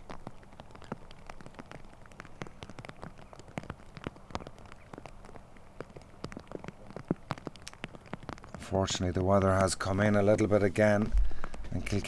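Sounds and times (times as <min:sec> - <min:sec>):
rain falling: 0:00.0 - 0:12.0
raindrops clicking on surface: 0:00.0 - 0:12.0.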